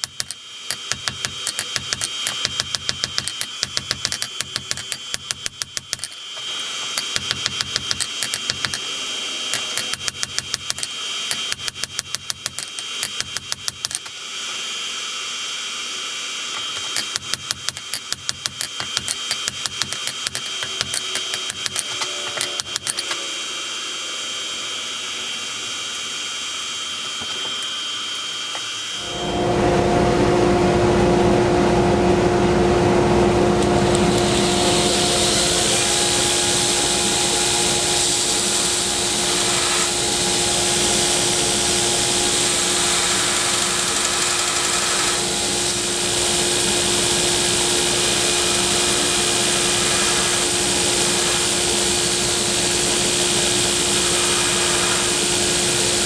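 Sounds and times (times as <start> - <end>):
shop machine humming and hissing: 0.0 - 56.0.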